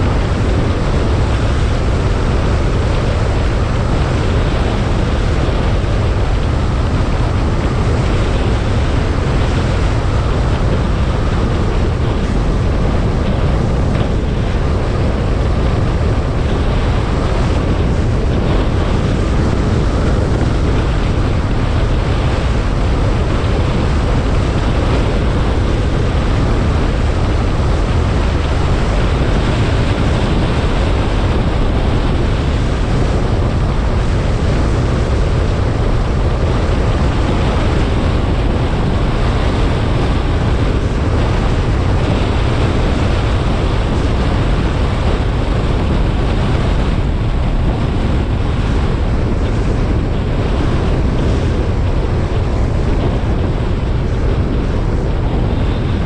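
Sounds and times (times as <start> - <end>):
car road noise: 0.0 - 56.0
wind rumble on microphone: 0.0 - 56.0.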